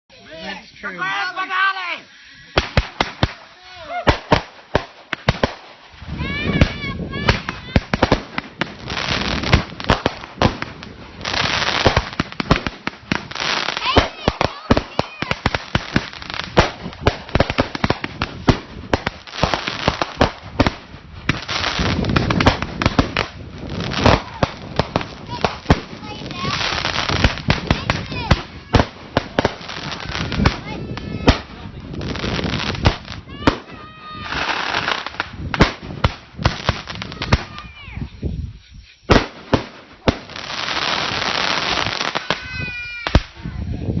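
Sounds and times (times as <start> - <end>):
fireworks crackling: 0.1 - 44.0
firework bangs: 2.5 - 38.1, 39.1 - 43.6.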